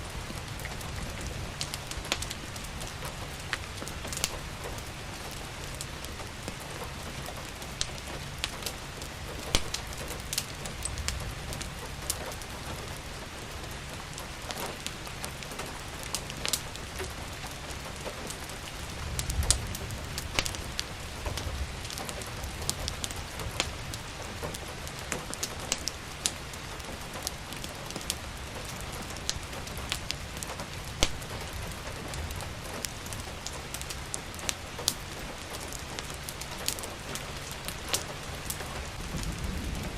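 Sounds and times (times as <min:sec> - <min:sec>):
rain falling: 0:00.0 - 0:39.9
fireplace crackling: 0:00.2 - 0:39.3.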